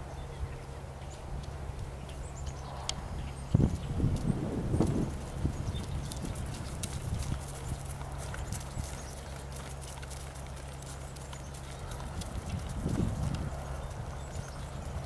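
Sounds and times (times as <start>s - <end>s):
steady low rumble: 0.0s - 15.0s
horse trotting on grass: 0.8s - 15.0s.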